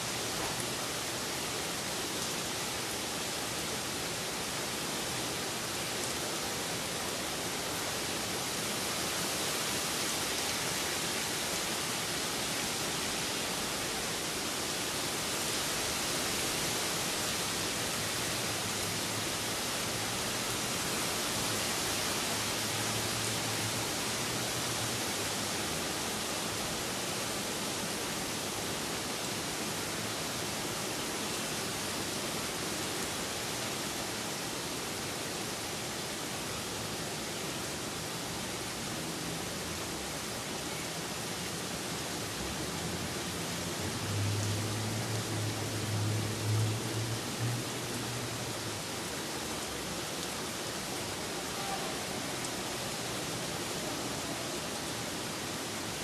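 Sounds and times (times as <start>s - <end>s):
rain falling on leafy trees: 0.0s - 56.0s.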